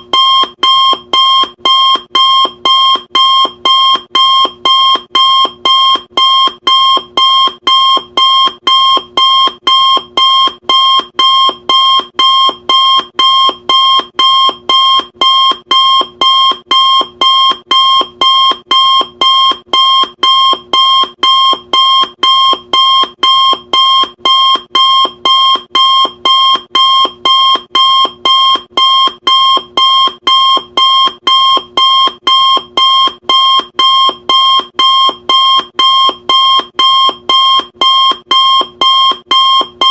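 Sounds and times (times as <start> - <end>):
electronic timer alarm beeping: 0.0 - 39.9.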